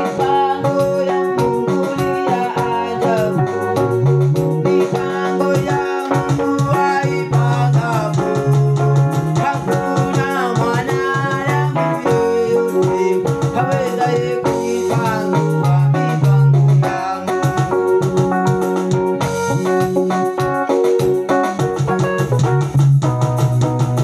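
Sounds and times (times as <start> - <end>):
steady percussion beat: 0.0 - 24.0
upbeat keyboard music: 0.0 - 24.0.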